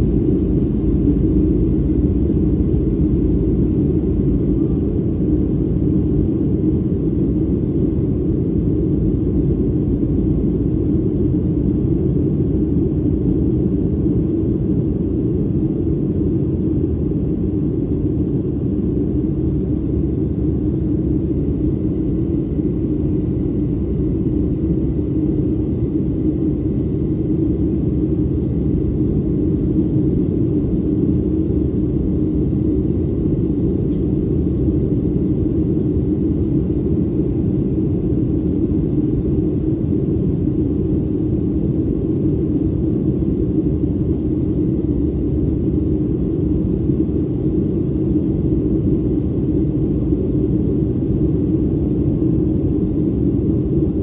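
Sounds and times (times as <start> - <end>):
airliner engine roar: 0.0 - 54.0.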